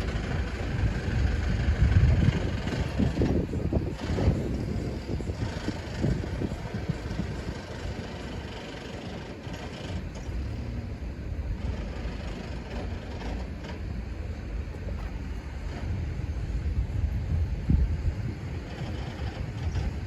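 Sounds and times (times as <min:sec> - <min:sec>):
passing vehicles rumble: 0:00.0 - 0:20.0
wind buffeting microphone: 0:00.0 - 0:20.0.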